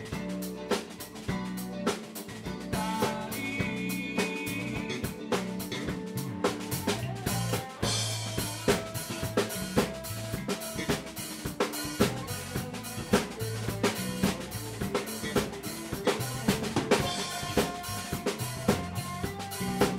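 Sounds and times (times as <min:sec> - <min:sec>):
drum kit beat: 0:00.0 - 0:19.9
electric bass: 0:00.0 - 0:19.9
electric guitar: 0:00.0 - 0:19.9.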